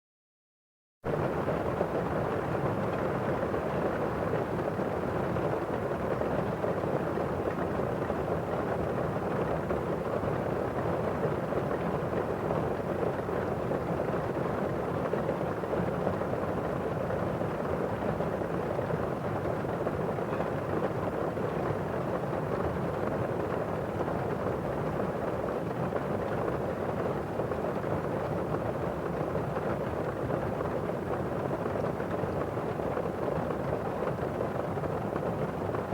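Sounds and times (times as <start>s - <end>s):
muffled heavy rain on roof: 1.1s - 35.9s.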